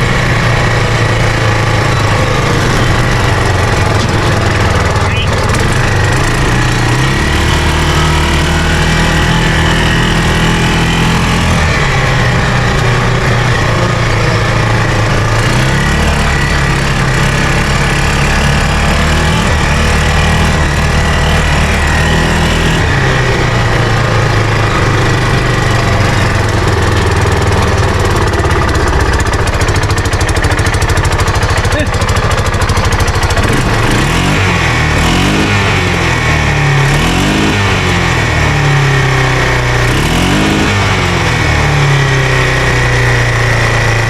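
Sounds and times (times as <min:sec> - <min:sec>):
engine running loud and uneven: 0:00.0 - 0:44.0.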